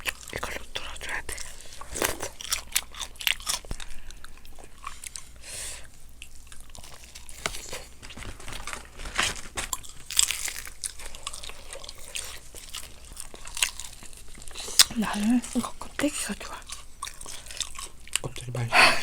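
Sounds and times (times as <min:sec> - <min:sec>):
crunching fried chicken: 0:00.0 - 0:05.4, 0:06.1 - 0:15.8, 0:16.5 - 0:18.7.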